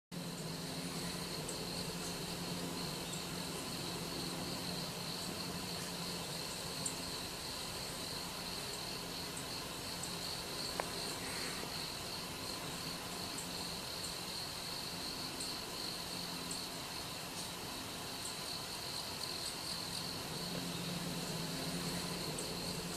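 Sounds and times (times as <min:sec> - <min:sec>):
high-pitched insect chorus: 0:00.1 - 0:22.9
faint low hum: 0:00.2 - 0:22.9.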